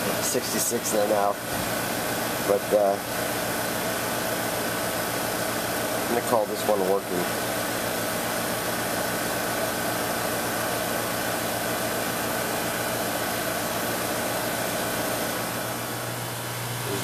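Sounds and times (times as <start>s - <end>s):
compressor hum: 0.0s - 17.0s
condenser fan air rush: 0.0s - 17.0s.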